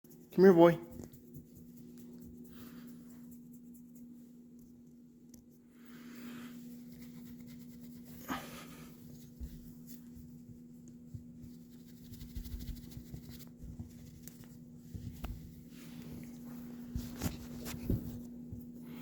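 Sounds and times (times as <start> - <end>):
cat rustling and scratching: 0.1 - 19.0
steady low hum: 0.1 - 19.0.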